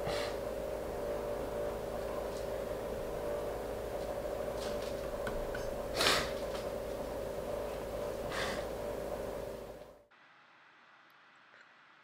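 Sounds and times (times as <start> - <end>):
hum of held tones: 0.0 - 10.1.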